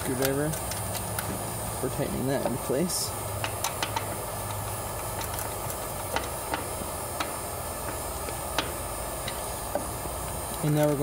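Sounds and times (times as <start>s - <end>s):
electrical wires clicking: 0.0s - 2.7s, 3.4s - 11.0s.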